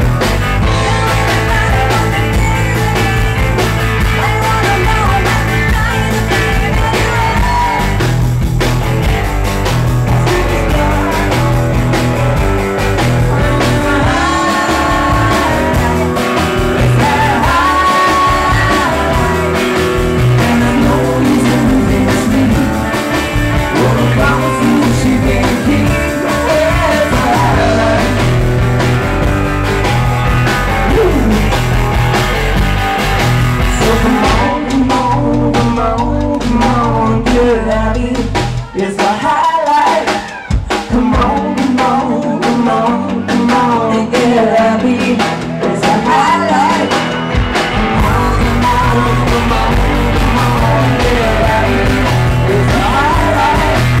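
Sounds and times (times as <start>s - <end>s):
rock band playing: 0.0s - 54.0s
woman singing lead: 0.6s - 8.2s, 10.0s - 28.7s, 30.4s - 31.6s, 33.6s - 54.0s.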